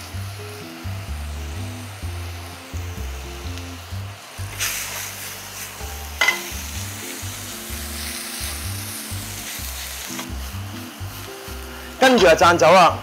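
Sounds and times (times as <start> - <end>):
background music with bass: 0.0 - 13.0
food sizzling in a frying pan: 0.0 - 13.0.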